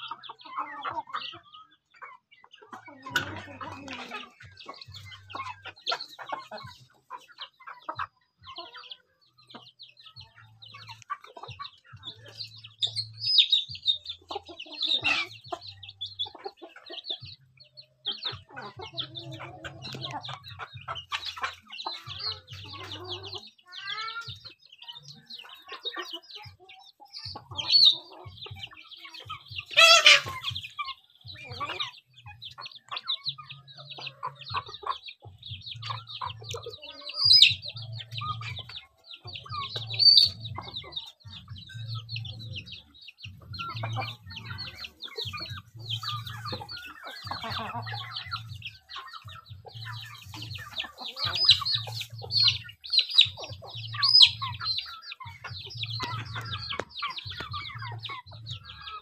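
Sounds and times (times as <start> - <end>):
sharp chicken calls: 0.0 - 17.2, 17.9 - 59.0
chickens clucking: 0.0 - 59.0
chicks peeping: 0.0 - 59.0.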